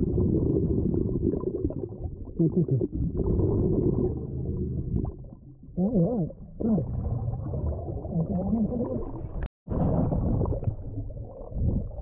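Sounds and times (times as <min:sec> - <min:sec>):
underwater rumbling and gurgling: 0:00.0 - 0:12.0.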